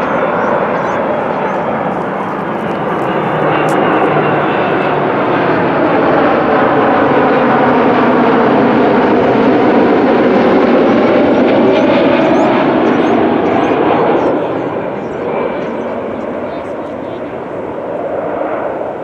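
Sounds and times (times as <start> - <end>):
airplane engines roaring: 0.0 - 19.0.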